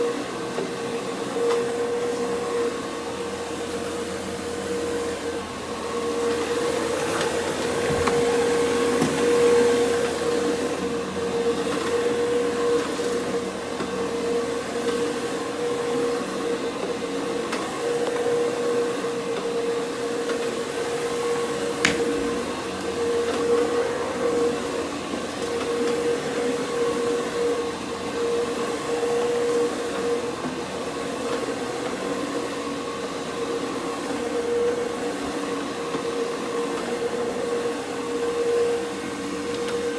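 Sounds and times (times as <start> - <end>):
carpet cleaning machine whine: 0.0 - 39.9.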